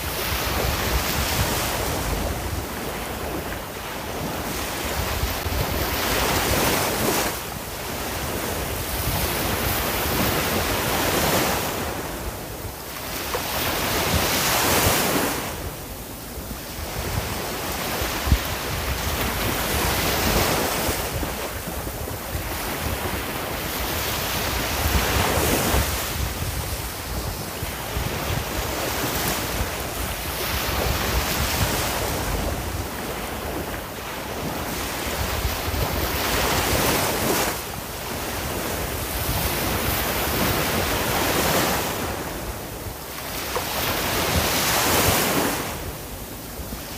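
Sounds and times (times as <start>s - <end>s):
ocean waves breaking on shore: 0.0s - 46.9s
wind rumble on microphone: 0.0s - 46.9s.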